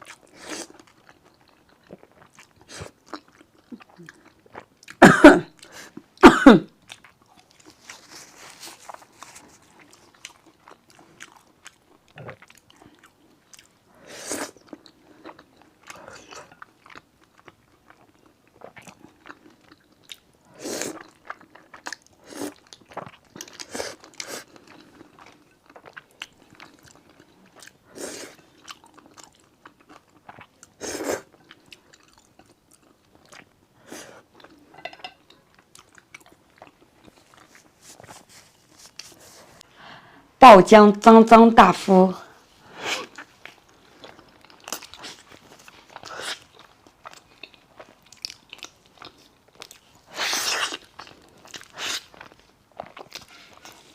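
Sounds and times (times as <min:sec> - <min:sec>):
close chewing and mouth noises: 0:00.0 - 0:39.7, 0:42.3 - 0:53.9.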